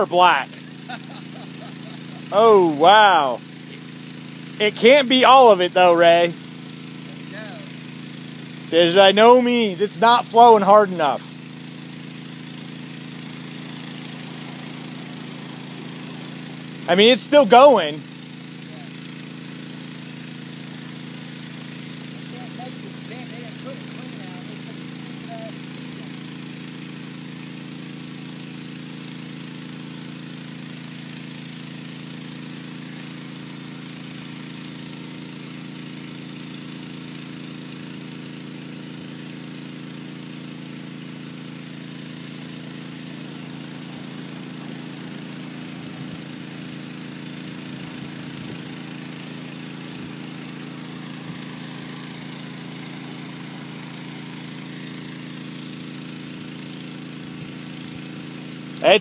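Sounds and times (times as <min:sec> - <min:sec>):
engine running steadily: 0:00.0 - 0:59.0
high-pressure water jet: 0:00.0 - 0:59.0.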